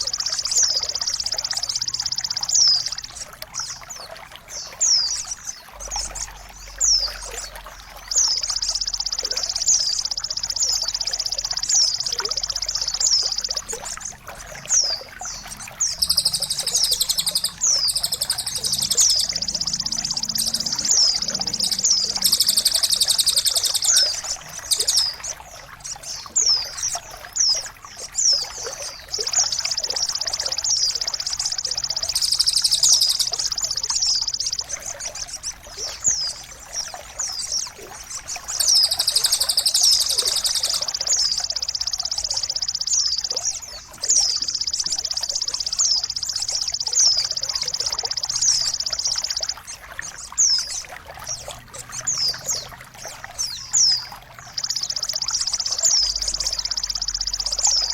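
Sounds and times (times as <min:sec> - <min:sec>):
songbird trilling and whistling: 0:00.0 - 0:57.9.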